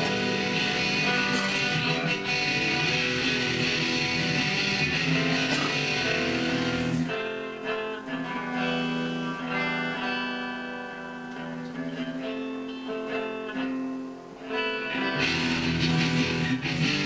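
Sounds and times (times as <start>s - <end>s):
electric guitar ringing notes: 0.0s - 17.0s.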